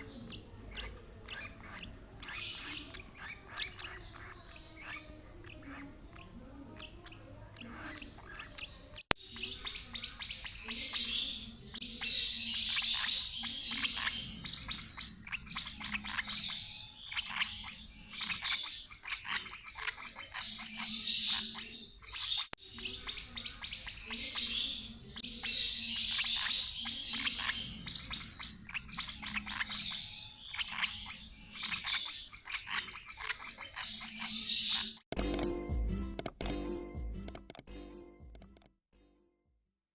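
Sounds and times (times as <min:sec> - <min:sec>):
lovebirds chirping: 0:00.0 - 0:38.7.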